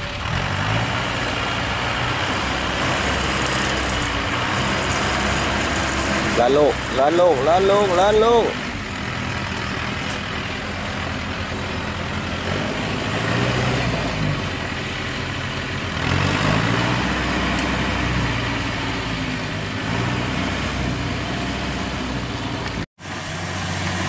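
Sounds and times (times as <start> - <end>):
tracked vehicle engine under load: 0.0 - 24.0.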